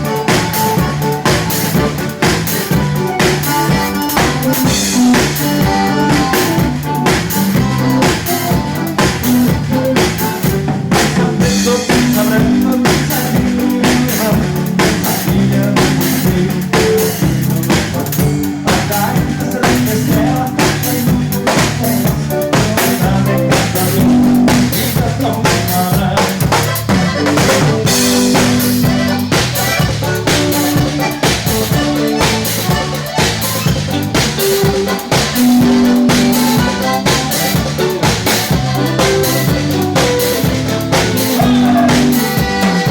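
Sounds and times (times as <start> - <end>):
bass line: 0.0 - 42.9
drum kit steady beat: 0.0 - 42.9
live band playing dance music: 0.0 - 42.9.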